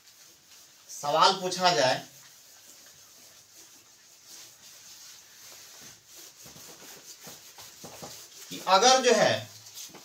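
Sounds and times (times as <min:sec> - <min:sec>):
eraser rubbing on whiteboard: 0:00.0 - 0:10.0.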